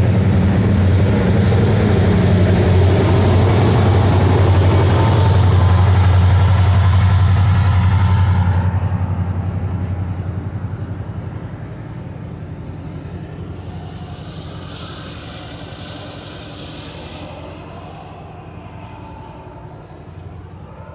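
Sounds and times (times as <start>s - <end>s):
locomotive diesel engine throbbing: 0.0s - 20.9s.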